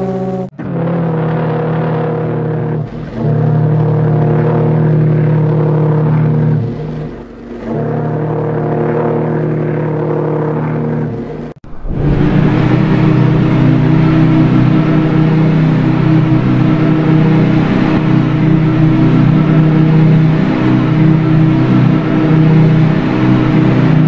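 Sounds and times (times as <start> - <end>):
deep steam whistle blasts: 0.0 - 11.2, 11.9 - 24.0.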